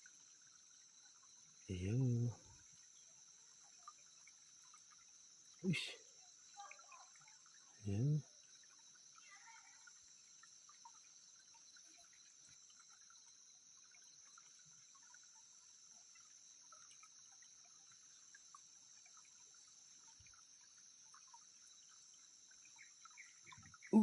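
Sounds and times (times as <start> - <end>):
creek trickling and dripping: 0.0 - 24.0
high-pitched insect hum: 0.0 - 24.0.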